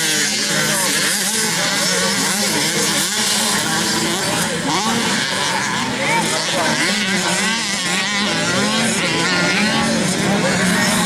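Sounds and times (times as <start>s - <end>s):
motorbike engines revving: 0.0s - 11.0s.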